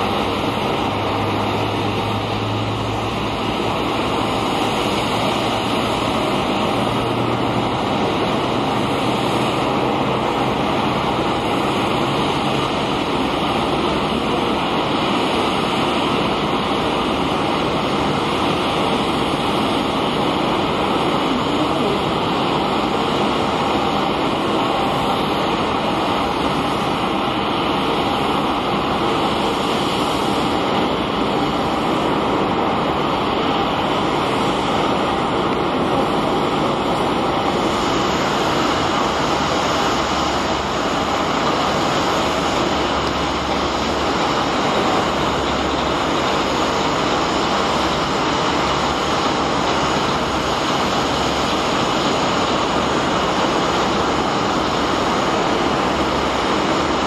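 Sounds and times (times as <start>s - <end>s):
airport ambience rushing noise: 0.0s - 57.0s.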